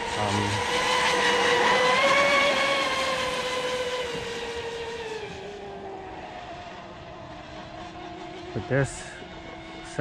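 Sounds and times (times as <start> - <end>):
electric motor whine of boat: 0.0 - 10.0.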